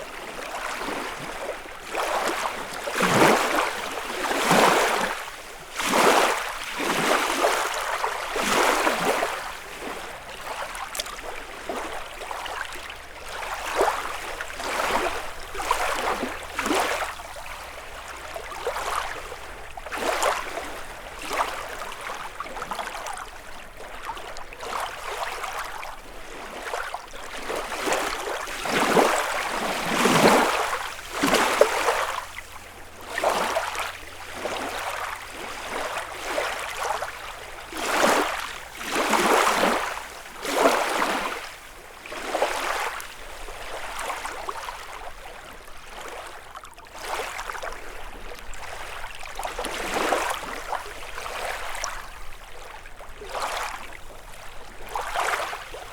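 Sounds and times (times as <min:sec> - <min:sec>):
lake waves lapping on shore: 0:00.0 - 0:55.9.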